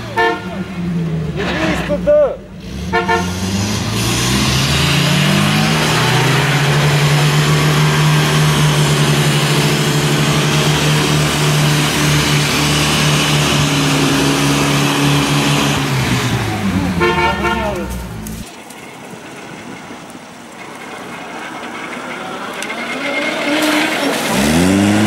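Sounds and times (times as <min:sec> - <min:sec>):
jeep engine revving: 0:00.0 - 0:18.4, 0:20.5 - 0:25.0.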